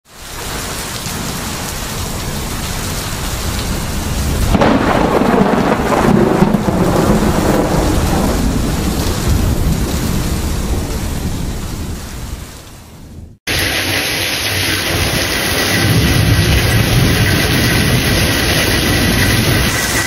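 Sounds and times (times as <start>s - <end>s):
heavy rain: 0.0s - 20.0s
thunder rolling: 0.4s - 20.0s.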